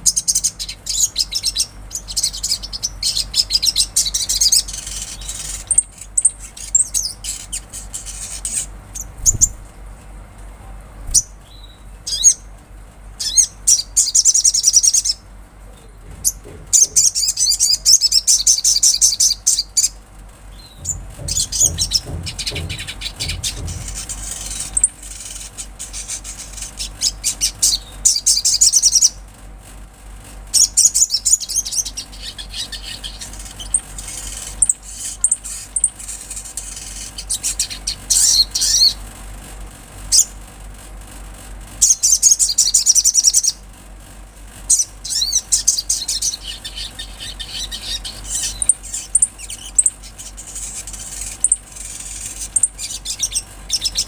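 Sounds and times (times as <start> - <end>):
bird trilling chatter: 0.0 - 9.7, 11.1 - 12.5, 13.2 - 29.2, 30.5 - 39.1, 41.8 - 43.6, 44.7 - 54.0.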